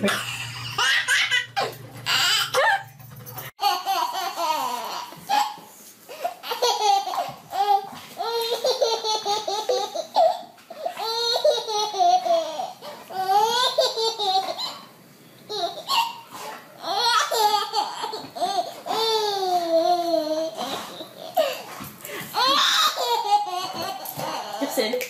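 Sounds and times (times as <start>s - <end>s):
babies laughing: 0.0s - 24.8s.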